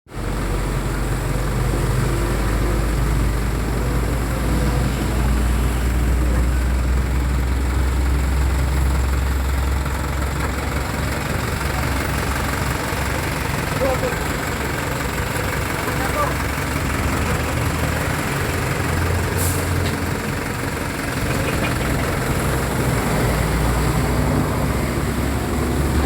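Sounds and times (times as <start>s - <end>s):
diesel truck engine idling: 0.1s - 26.0s.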